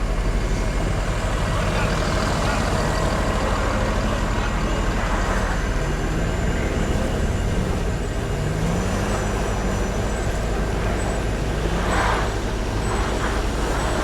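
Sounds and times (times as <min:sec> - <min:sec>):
heavy vehicle engine accelerating: 0:00.0 - 0:14.0
low traffic rumble: 0:00.0 - 0:14.0.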